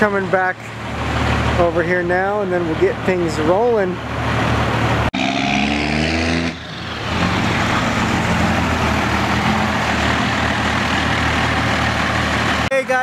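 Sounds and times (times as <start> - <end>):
diesel pickup engine droning: 0.0 - 13.0.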